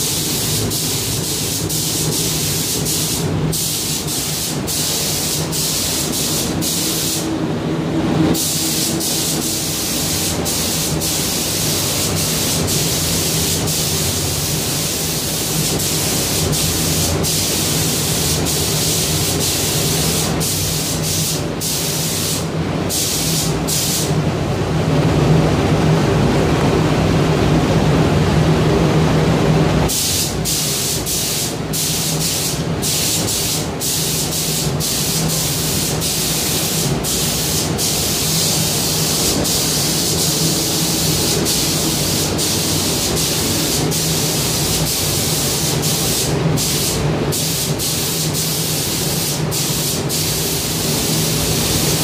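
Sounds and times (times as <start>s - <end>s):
paint spray gun hissing: 0.0s - 7.3s, 8.4s - 24.1s, 29.9s - 52.0s
steady low hum: 0.0s - 52.0s.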